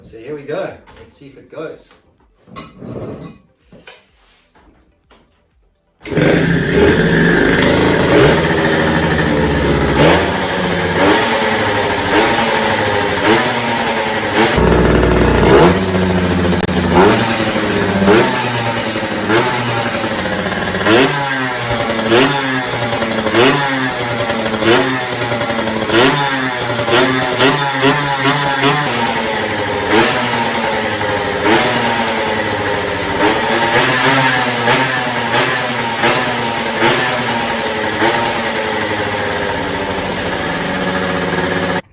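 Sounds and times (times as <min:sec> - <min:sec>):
two-stroke engine revving: 0:06.0 - 0:41.9.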